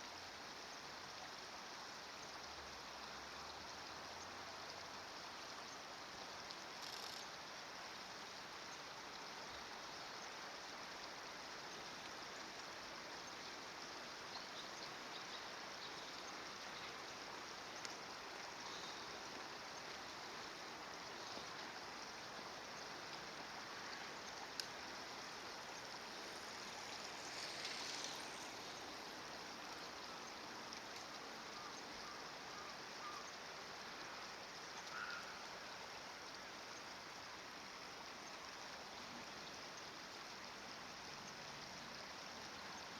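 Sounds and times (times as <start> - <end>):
running stream water: 0.0 - 42.9.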